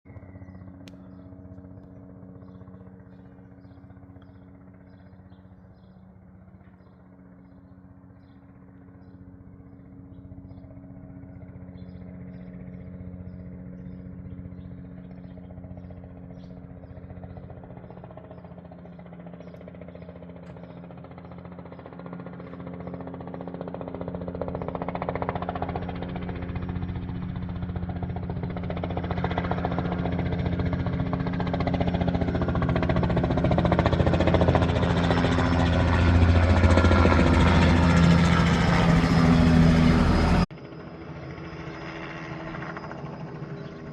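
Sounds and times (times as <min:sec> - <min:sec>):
helicopter rotor hum and beat: 0:00.1 - 0:43.9.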